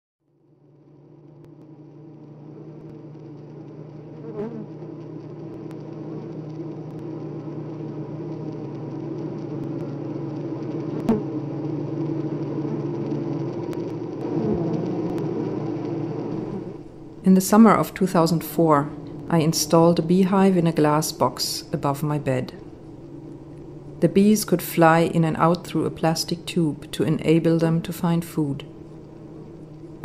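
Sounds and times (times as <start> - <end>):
bees buzzing: 1.0 - 27.0, 28.6 - 30.0.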